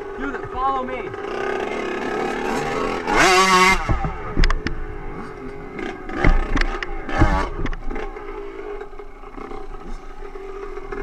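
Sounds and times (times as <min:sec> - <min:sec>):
dirt bike engine revving: 0:00.0 - 0:11.0
sharp thumps: 0:00.2 - 0:01.5, 0:02.2 - 0:10.0.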